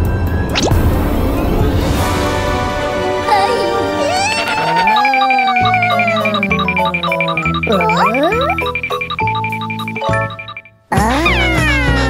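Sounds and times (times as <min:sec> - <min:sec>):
background music: 0:01.0 - 0:12.0.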